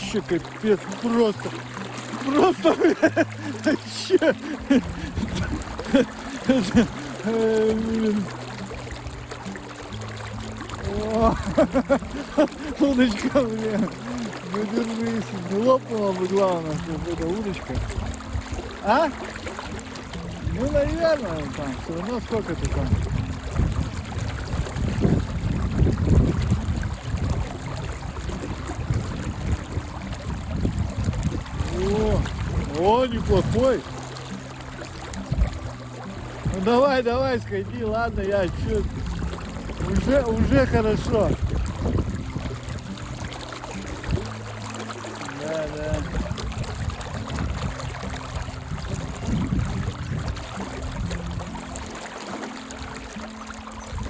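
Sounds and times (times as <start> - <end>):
running river water: 0.0 - 54.0
wind buffeting microphone: 2.3 - 44.6, 45.6 - 51.9, 52.8 - 54.0.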